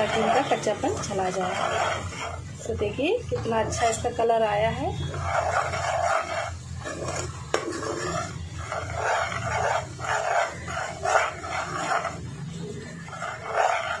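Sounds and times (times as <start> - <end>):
spatula scraping a pot: 0.0 - 14.0.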